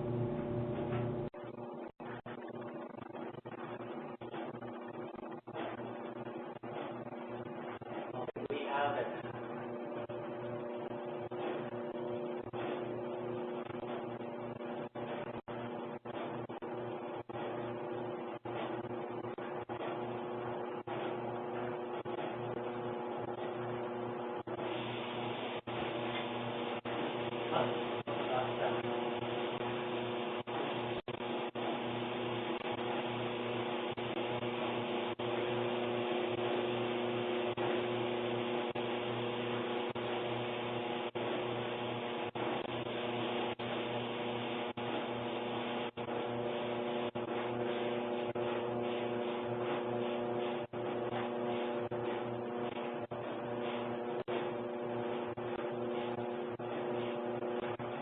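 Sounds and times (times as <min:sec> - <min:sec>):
clothes dryer droning: 0:00.0 - 0:58.0.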